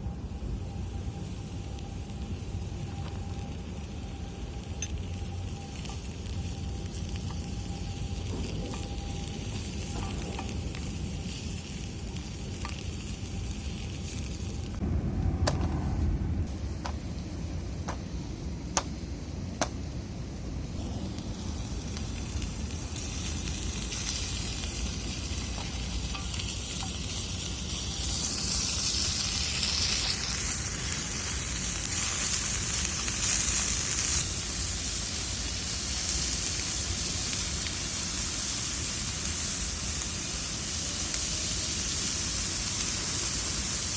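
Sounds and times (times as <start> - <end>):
bacon sizzling in a pan: 1.2 - 14.8, 20.8 - 43.9.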